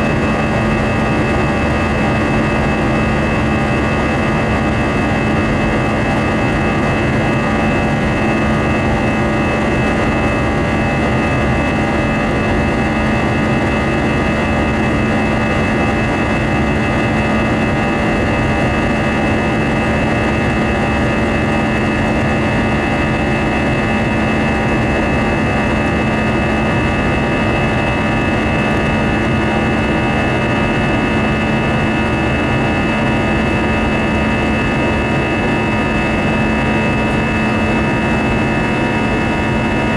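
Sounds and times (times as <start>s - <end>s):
airplane cabin engine noise: 0.0s - 39.9s.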